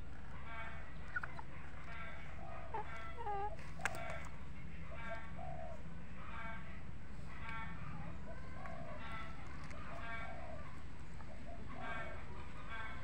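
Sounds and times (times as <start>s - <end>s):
poultry calling: 0.0s - 13.0s.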